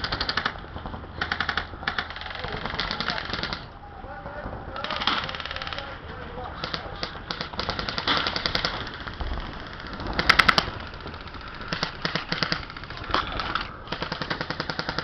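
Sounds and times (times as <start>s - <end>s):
airsoft guns firing bursts: 0.0s - 15.0s.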